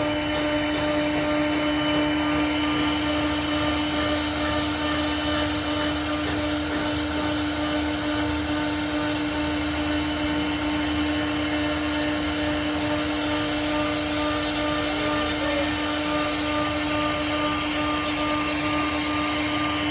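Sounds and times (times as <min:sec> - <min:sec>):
machine humming: 0:00.0 - 0:19.9.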